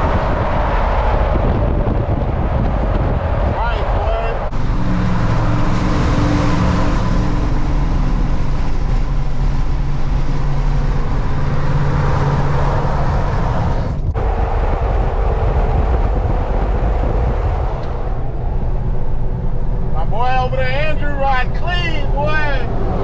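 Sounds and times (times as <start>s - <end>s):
engine and tyre rumble: 0.0s - 23.0s
wind noise: 0.0s - 23.0s.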